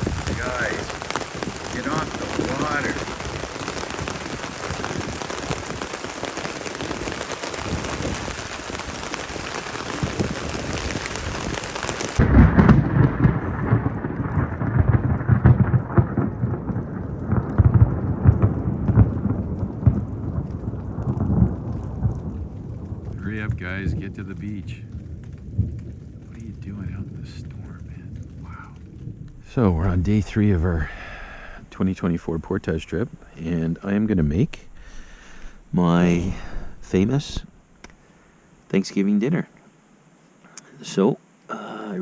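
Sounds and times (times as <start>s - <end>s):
thunder rumbling: 0.0s - 38.1s
heavy rain hissing: 0.0s - 42.0s.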